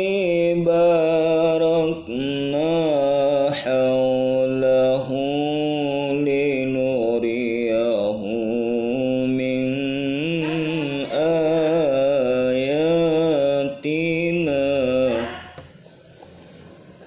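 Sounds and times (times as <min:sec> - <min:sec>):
man reciting melodically: 0:00.0 - 0:15.6.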